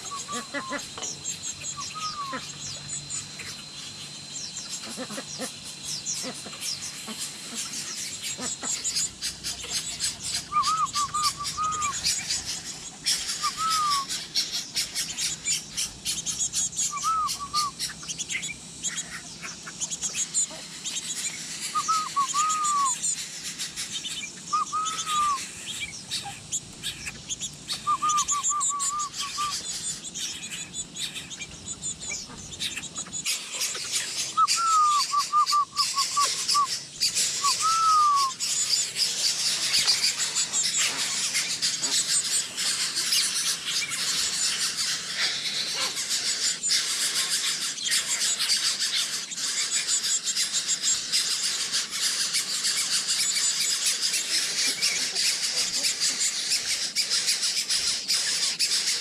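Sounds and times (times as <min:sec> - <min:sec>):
low bird call notes: 0:00.0 - 0:50.3
high rapid bird chirps: 0:00.0 - 0:59.0.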